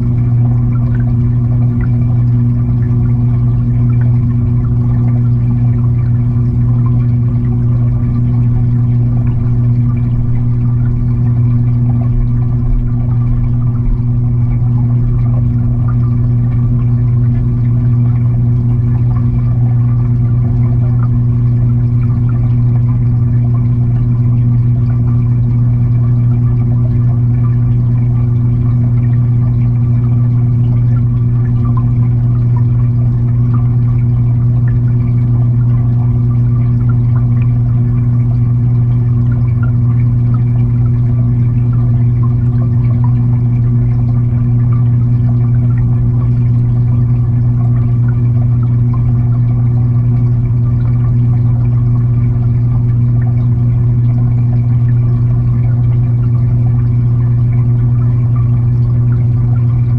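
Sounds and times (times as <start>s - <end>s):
aquarium filter pump humming: 0.0s - 59.9s
water crackling: 0.0s - 59.9s.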